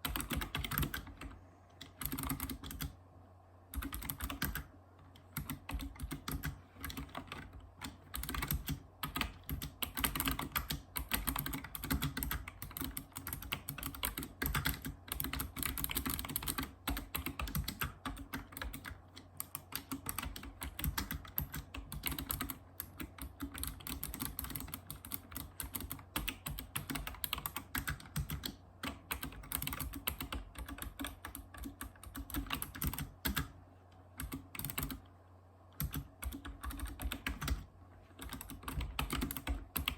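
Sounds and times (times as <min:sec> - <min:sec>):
fast typing on keyboard: 0:00.0 - 0:03.0, 0:03.7 - 0:33.6, 0:34.2 - 0:35.1, 0:35.8 - 0:39.9.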